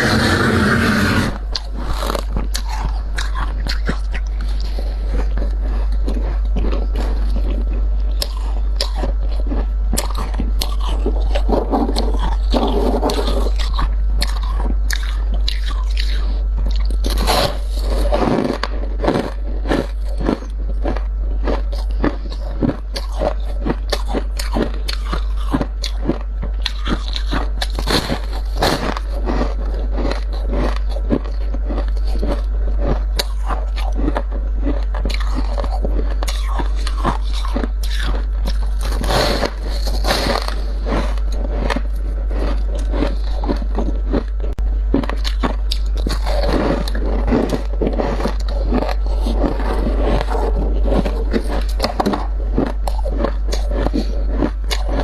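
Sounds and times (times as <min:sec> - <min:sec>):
frost crunching: 0:00.0 - 0:55.0.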